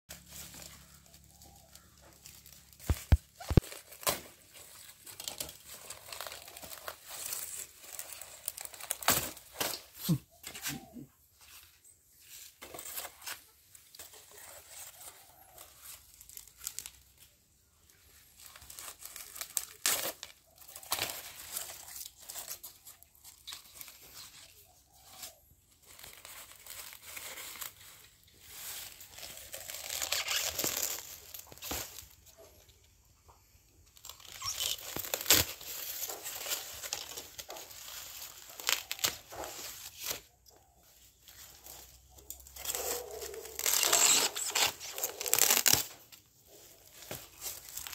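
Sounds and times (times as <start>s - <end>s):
dry fern fronds crackling and tearing: 0.1s - 32.8s, 33.6s - 47.9s.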